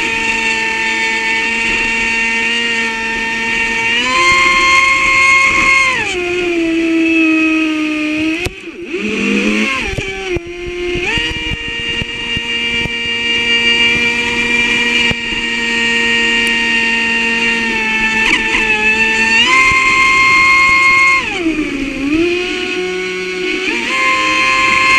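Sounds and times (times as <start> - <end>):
rc boat motor whining: 0.0 - 24.9.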